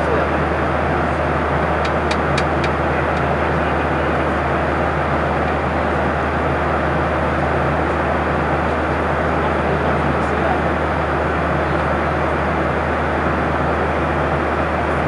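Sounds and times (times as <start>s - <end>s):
airplane cabin roar: 0.0s - 15.0s
constant low hum: 0.0s - 15.0s.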